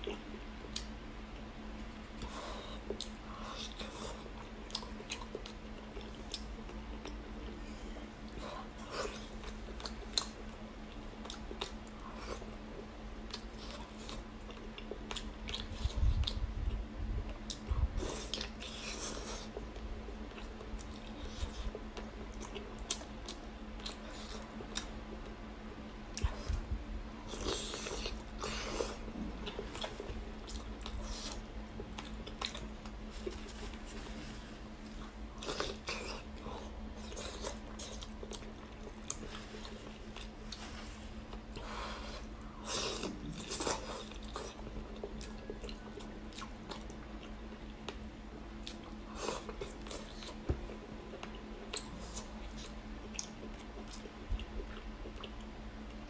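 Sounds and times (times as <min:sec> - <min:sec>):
steady low hum: 0:00.0 - 0:56.0
chewing and mouth smacks: 0:02.1 - 0:07.6, 0:08.3 - 0:12.5, 0:13.3 - 0:25.4, 0:27.3 - 0:34.0, 0:34.9 - 0:40.7, 0:41.3 - 0:56.0.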